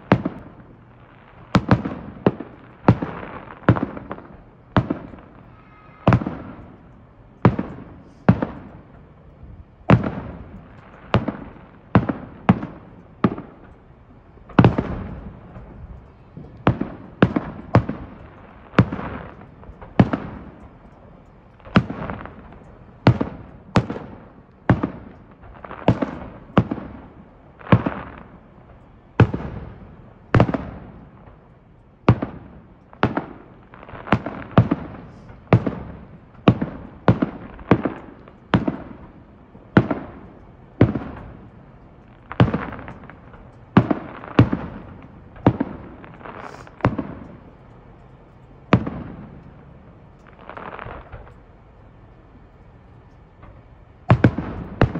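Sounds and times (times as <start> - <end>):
fireworks banging: 0.0 - 54.9.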